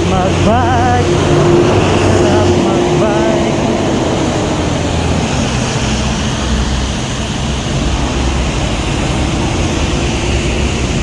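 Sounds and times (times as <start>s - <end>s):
heavy rain: 0.0s - 11.0s
low rumble of wind buffeting: 0.0s - 11.0s
wind on microphone: 0.0s - 11.0s.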